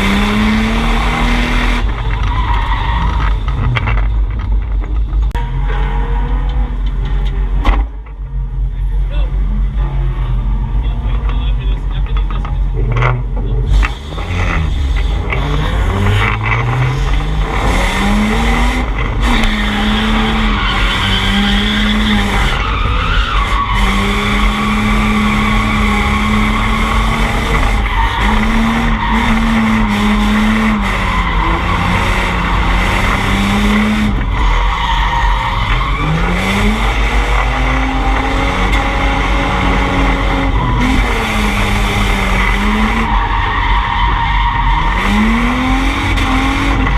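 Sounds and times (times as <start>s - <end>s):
car engine revving high: 0.0s - 4.0s, 12.0s - 46.9s
tyres skidding and squealing: 0.0s - 46.9s.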